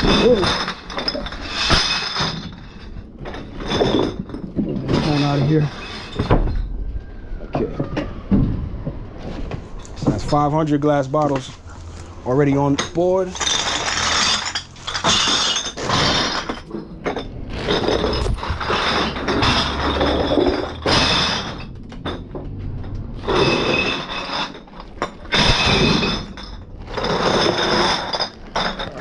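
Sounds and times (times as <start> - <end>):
bottles and cans clinking: 0.0 - 6.7, 12.4 - 29.0.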